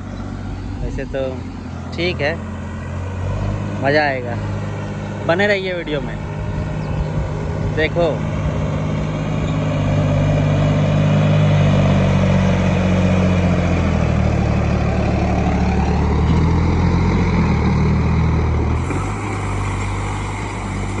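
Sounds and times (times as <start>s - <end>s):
tractor diesel engine straining: 0.0s - 21.0s.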